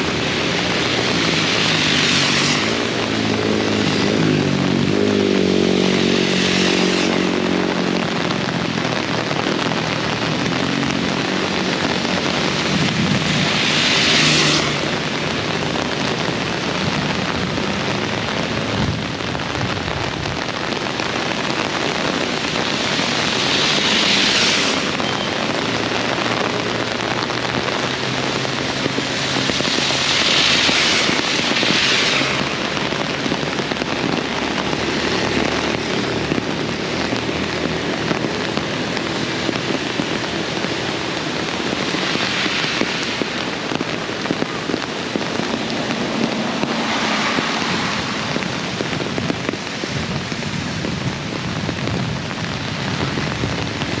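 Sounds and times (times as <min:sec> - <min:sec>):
vehicle passing: 0:00.0 - 0:19.2, 0:21.3 - 0:43.9, 0:44.7 - 0:48.8
heavy rain pouring: 0:00.0 - 0:54.0.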